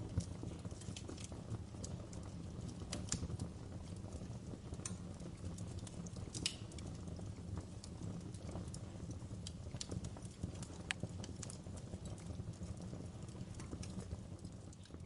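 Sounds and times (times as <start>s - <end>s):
bonfire pops and snaps: 0.0s - 15.0s
low rumble of burning fire: 0.0s - 15.0s.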